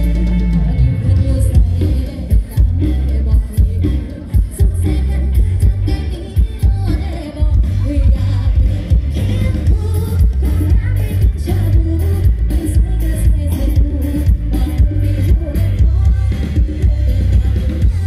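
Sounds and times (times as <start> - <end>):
heavy bass line: 0.0 - 18.0
live band playing amplified music: 0.0 - 18.0
steady drum beat: 0.0 - 18.0
woman singing into a microphone: 0.0 - 18.0.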